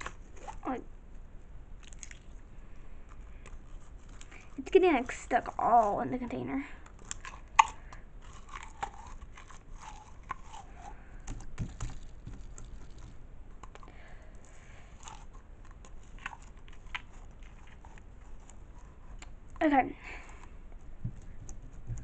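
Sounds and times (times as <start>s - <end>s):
sticky slime squelches: 1.8s - 19.8s.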